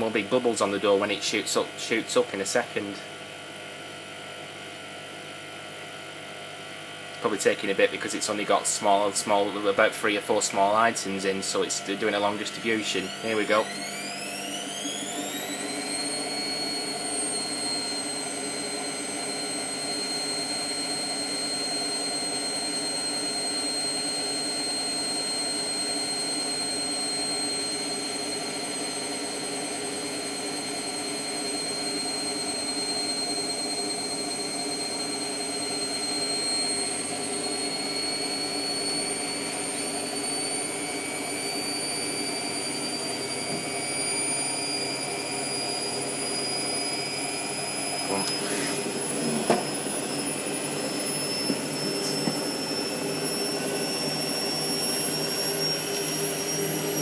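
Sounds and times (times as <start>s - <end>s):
washing machine spin whine: 0.0s - 57.0s.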